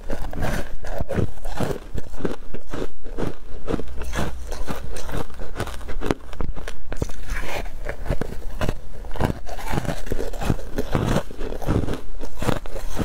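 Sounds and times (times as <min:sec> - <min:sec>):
ice crunching while chewed: 0:00.0 - 0:13.0.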